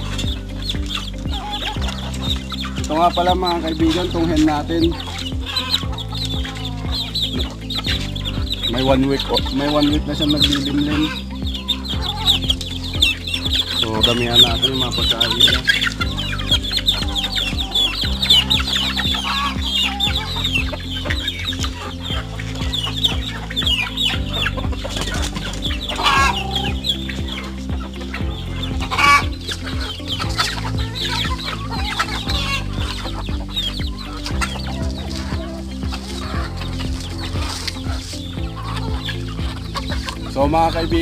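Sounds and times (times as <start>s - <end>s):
background music with low notes: 0.0s - 41.0s
chickens clucking and calling: 0.0s - 41.0s.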